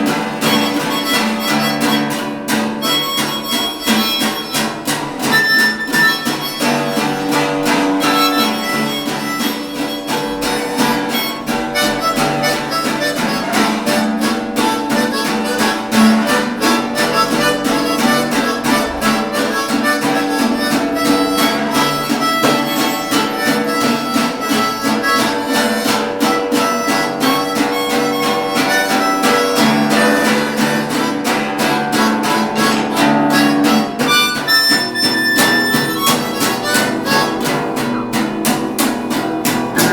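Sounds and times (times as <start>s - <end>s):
acoustic blues band playing: 0.0s - 39.9s
harmonica: 0.0s - 39.9s.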